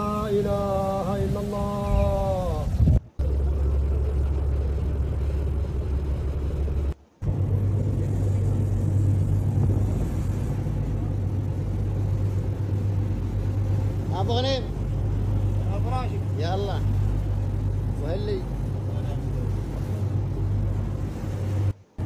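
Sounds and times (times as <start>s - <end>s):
boat engine droning: 0.0s - 22.0s
water noise: 0.0s - 22.0s
wind noise: 0.0s - 22.0s.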